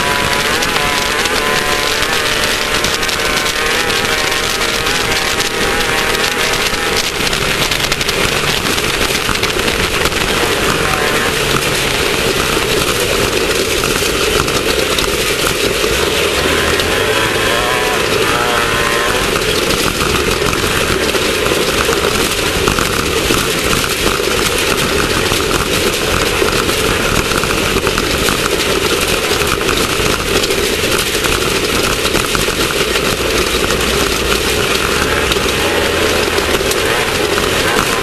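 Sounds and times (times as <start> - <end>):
dense ride noise: 0.0 - 38.0
race car engine running: 0.0 - 38.0.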